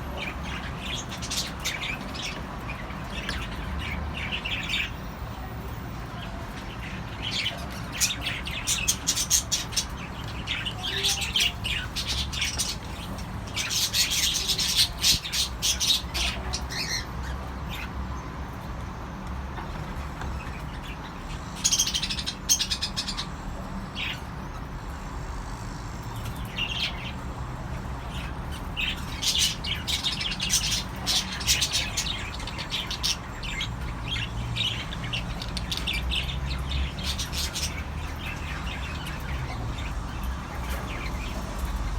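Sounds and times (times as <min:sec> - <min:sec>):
cockatiels chirping and squawking: 0:00.0 - 0:18.0, 0:19.6 - 0:24.8, 0:26.0 - 0:41.9.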